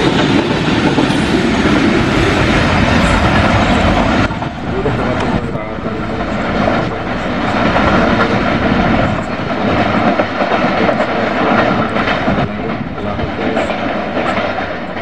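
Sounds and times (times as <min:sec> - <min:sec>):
train wheels clattering over rails: 0:00.0 - 0:15.0.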